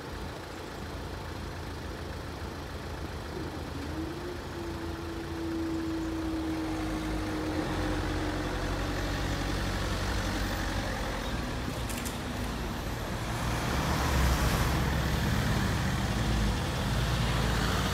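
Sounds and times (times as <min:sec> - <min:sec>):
vehicles pulling away and passing: 0:00.0 - 0:17.9.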